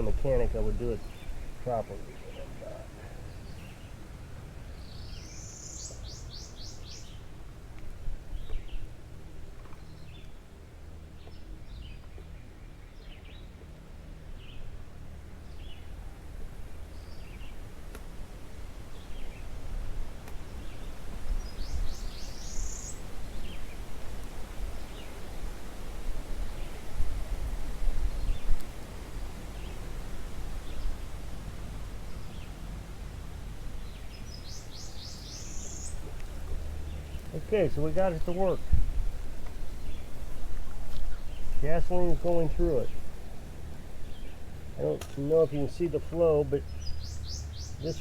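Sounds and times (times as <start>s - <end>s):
low background rumble: 0.0s - 48.0s
songbird singing: 0.0s - 48.0s.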